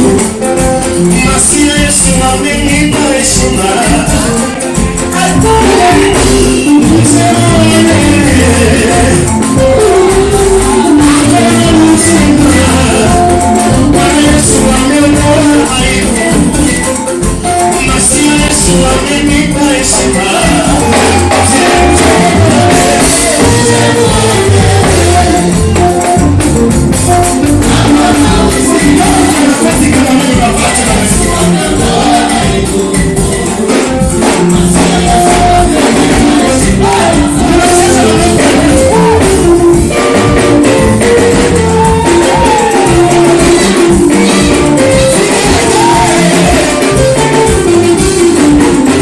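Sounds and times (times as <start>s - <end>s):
steady bass line: 0.0s - 49.0s
steady percussion: 0.0s - 49.0s
worship singing over instruments: 0.0s - 49.0s.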